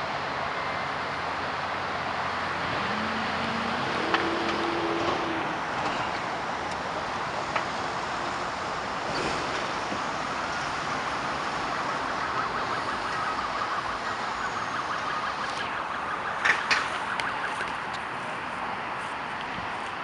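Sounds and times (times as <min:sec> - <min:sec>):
city traffic noise: 0:00.0 - 0:20.0.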